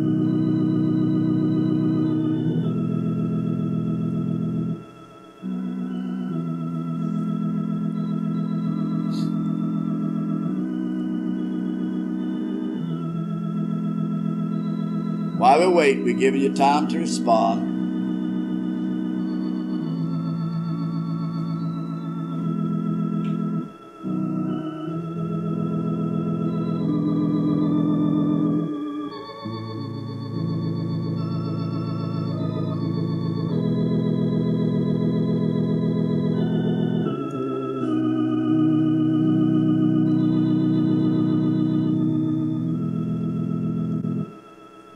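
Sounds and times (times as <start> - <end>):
organ playing held chords: 0.0 - 44.9.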